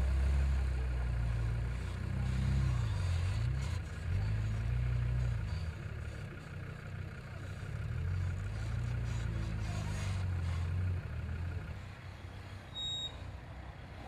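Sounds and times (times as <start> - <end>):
suv engine revving uphill: 0.0 - 11.9.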